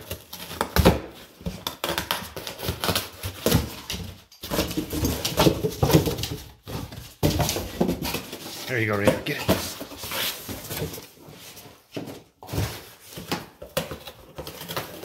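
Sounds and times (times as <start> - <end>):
dog tearing cardboard: 0.0 - 15.0.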